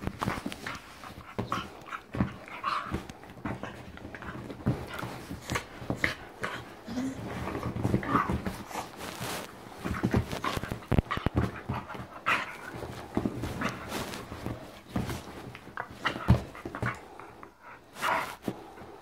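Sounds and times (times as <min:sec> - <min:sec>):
dog panting and huffing: 0:00.0 - 0:19.0.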